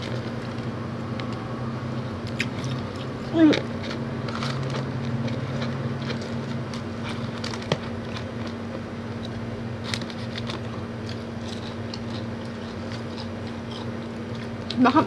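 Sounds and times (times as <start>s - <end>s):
chewing and crackling food: 0.0s - 15.0s
low electrical hum: 0.0s - 15.0s.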